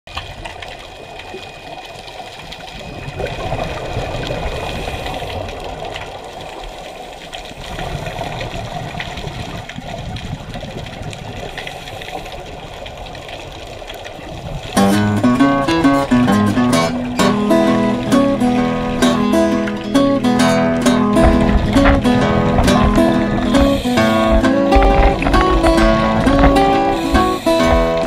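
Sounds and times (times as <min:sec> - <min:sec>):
underwater rumble: 0:00.1 - 0:28.0
exhaled bubbles gurgling: 0:00.3 - 0:28.0.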